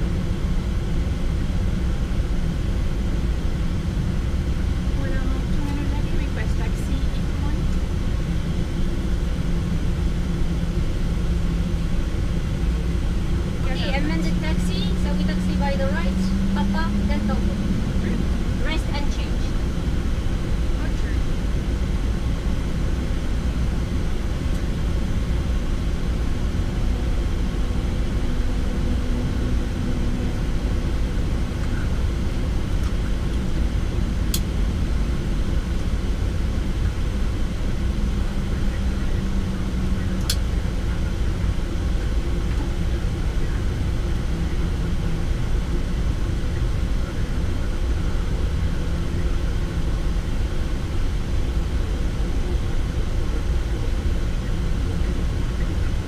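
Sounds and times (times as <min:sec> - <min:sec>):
low cockpit rumble: 0:00.0 - 0:56.0.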